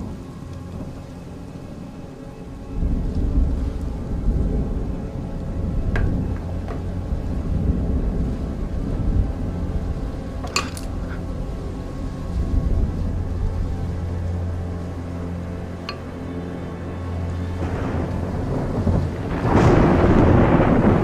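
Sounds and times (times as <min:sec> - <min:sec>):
thunder rumbling: 0:02.7 - 0:15.2, 0:16.3 - 0:21.0.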